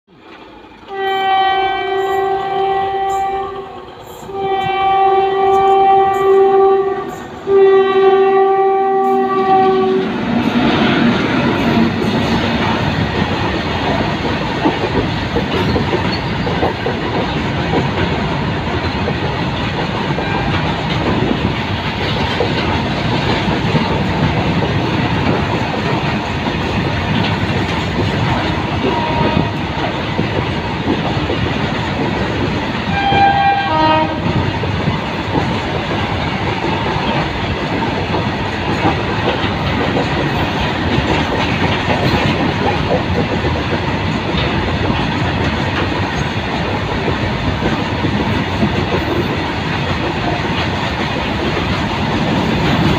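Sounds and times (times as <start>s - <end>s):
freight train rumbling past: 0.1s - 52.9s
wheels clacking over rail joints: 8.3s - 52.9s.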